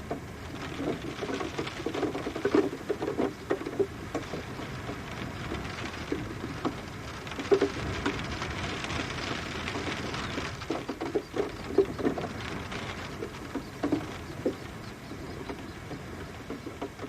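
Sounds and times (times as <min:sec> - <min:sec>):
raindrops tapping on hard surface: 0:00.0 - 0:17.0
steady rain falling: 0:00.0 - 0:17.0.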